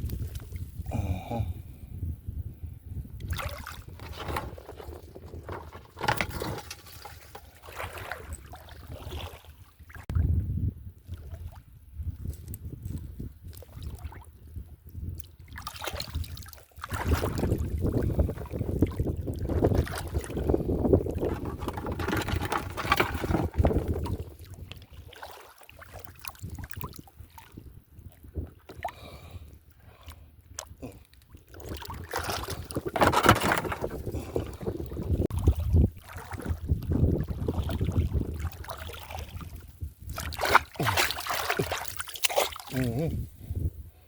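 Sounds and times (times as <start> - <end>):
wind buffeting microphone: 0.0 - 6.7, 7.8 - 25.0, 30.3 - 40.9, 42.8 - 44.0
water sloshing and splashing: 3.2 - 10.2, 12.2 - 14.3, 15.2 - 29.1, 30.6 - 43.2.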